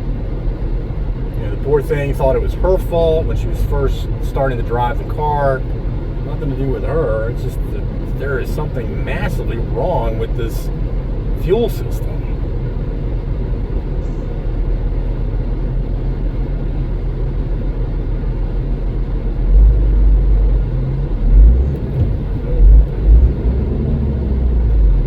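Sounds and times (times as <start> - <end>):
car engine rumbling and misfiring: 0.0 - 25.0.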